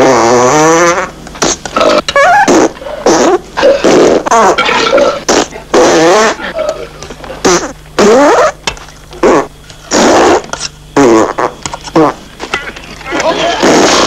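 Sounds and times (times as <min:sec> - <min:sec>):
loud farts: 0:00.0 - 0:06.8, 0:07.4 - 0:08.6, 0:09.2 - 0:12.3, 0:13.2 - 0:14.0.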